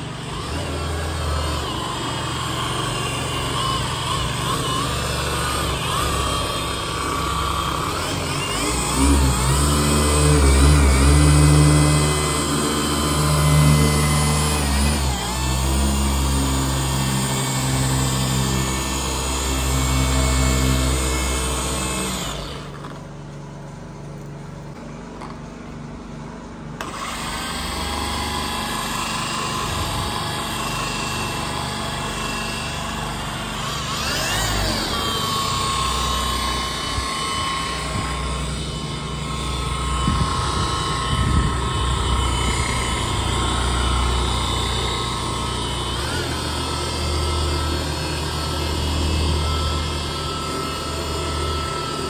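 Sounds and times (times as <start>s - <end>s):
polisher motor hum: 0.0s - 23.2s, 26.8s - 52.0s.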